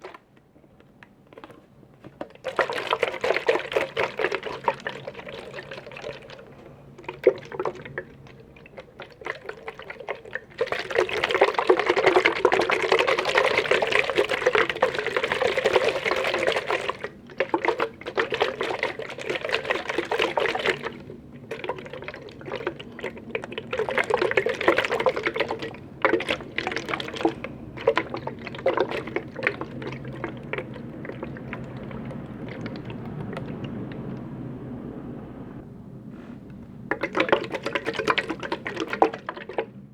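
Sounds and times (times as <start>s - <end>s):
liquid being poured: 2.2s - 34.6s, 36.9s - 39.8s.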